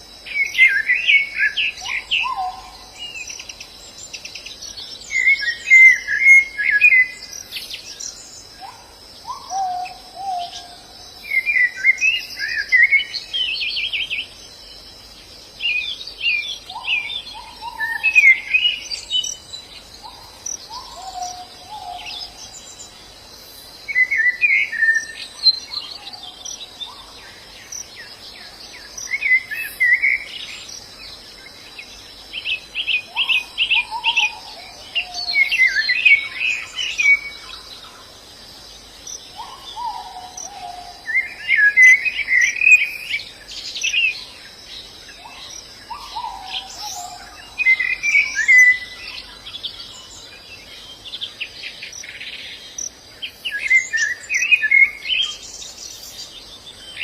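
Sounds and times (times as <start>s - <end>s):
insect drone: 0.0s - 57.0s
small birds chirping and twittering: 0.0s - 57.0s.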